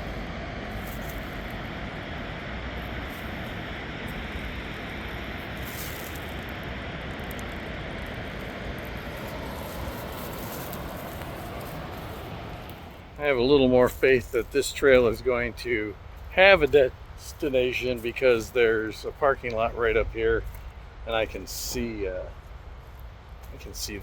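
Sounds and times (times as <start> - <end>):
distant traffic drone: 0.0 - 24.0.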